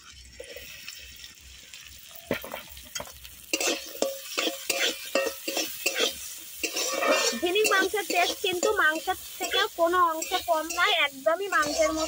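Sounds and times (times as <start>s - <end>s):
onions sizzling in oil: 0.0s - 12.0s
spatula scraping pan: 2.3s - 12.0s.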